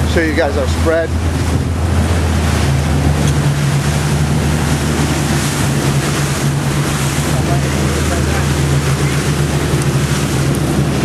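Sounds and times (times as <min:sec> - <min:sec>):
boat engines running: 0:00.0 - 0:11.0
churning wake: 0:00.0 - 0:11.0
wind on microphone: 0:00.0 - 0:11.0.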